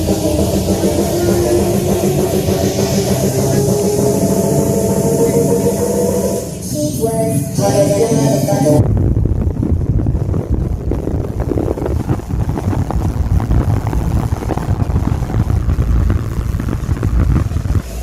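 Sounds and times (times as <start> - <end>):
heavy bass from speakers: 0.0 - 18.0.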